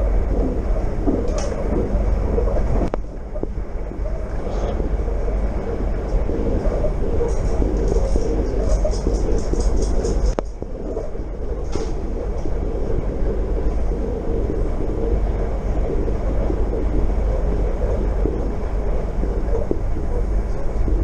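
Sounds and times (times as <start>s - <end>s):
train rumble from inside carriage: 0.0s - 21.0s.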